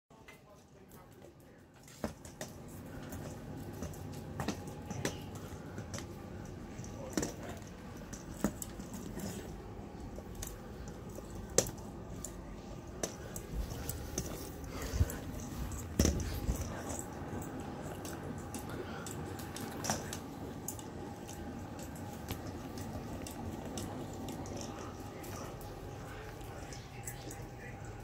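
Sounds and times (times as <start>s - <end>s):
low steady hum: 0.1s - 28.0s.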